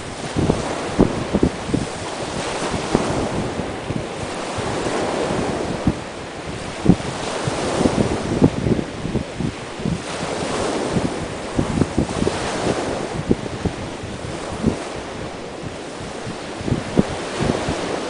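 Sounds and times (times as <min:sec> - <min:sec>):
sea surf breaking on shore: 0:00.0 - 0:18.0
wind buffeting microphone: 0:00.0 - 0:18.0.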